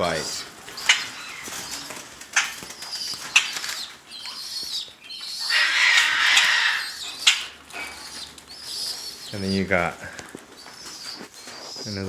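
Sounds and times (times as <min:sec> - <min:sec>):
birds screeching: 0:00.0 - 0:12.0.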